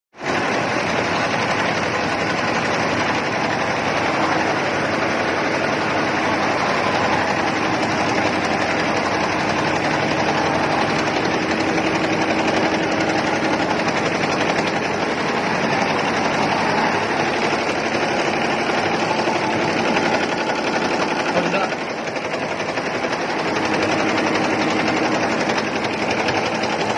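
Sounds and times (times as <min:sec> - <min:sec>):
embroidery machine clattering: 0:00.2 - 0:26.9.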